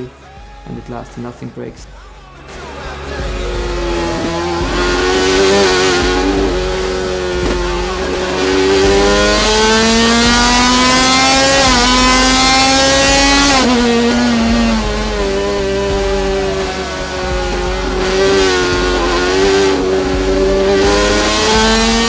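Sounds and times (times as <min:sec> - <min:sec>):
race bike engine at high revs: 0:02.6 - 0:22.0.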